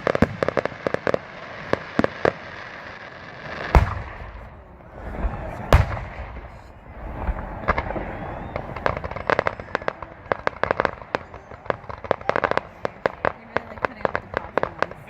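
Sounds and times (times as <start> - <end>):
fireworks crackling pops: 0.0 - 15.0
fireworks low rumble: 0.0 - 15.0.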